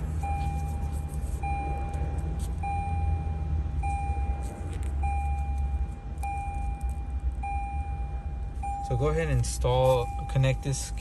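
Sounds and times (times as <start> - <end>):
low car hum: 0.0 - 11.0
car warning chime beeping: 0.1 - 11.0.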